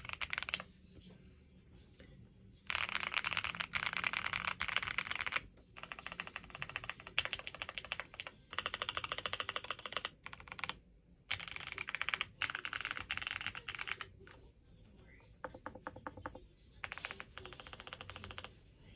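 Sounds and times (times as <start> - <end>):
mechanical keyboard typing: 0.0 - 0.7, 2.7 - 14.4, 15.5 - 18.6.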